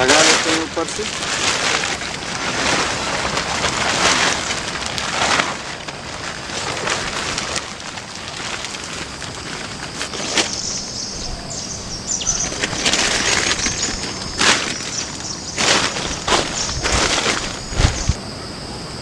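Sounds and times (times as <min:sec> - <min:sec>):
plastic tarp rustling and crinkling: 0:00.0 - 0:18.2.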